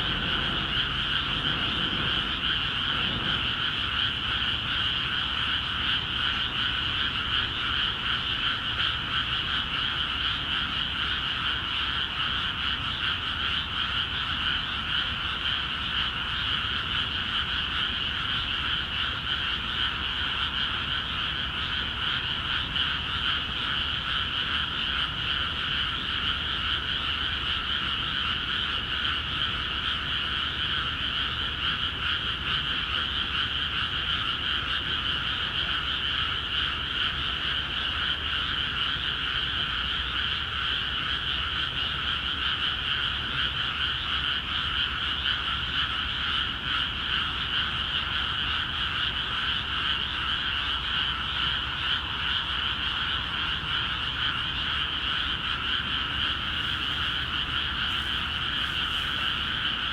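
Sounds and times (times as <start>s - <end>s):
chorus of frogs calling: 0.0s - 59.9s.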